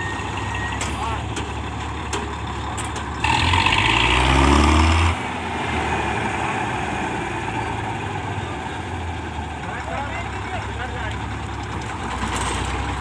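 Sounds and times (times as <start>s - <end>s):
combine harvester diesel engine: 0.0s - 13.0s.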